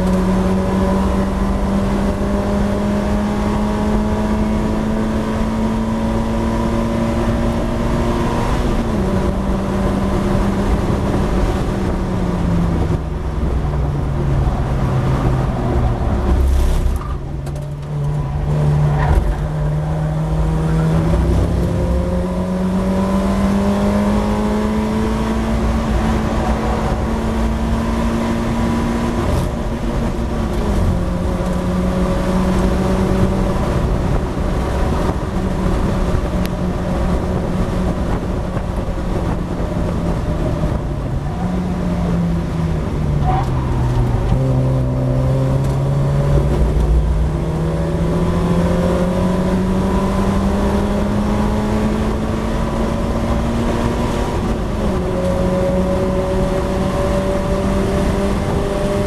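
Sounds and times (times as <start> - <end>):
race car engine at high revs: 0.0 - 59.0
wind and road noise: 0.0 - 59.0.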